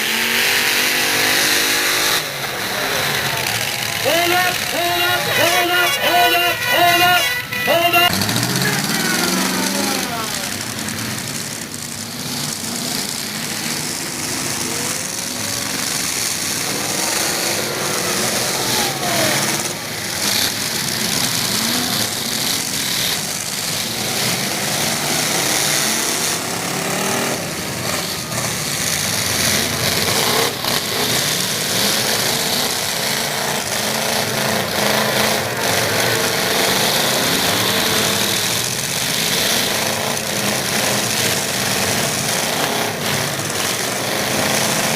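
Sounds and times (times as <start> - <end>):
truck engines revving: 0.0 - 44.9.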